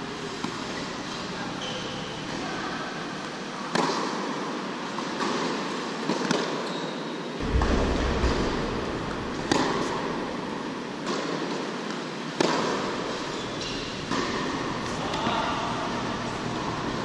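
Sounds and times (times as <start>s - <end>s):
steady hall noise: 0.0s - 17.0s.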